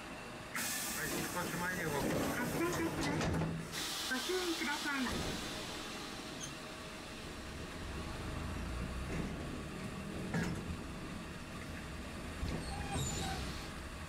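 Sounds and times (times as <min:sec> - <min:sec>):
streetcar rumbling: 0:00.0 - 0:14.0.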